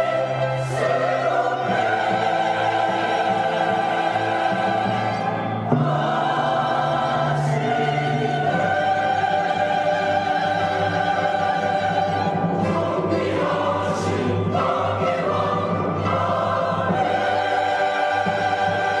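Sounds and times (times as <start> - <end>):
church choir singing: 0.0 - 19.0.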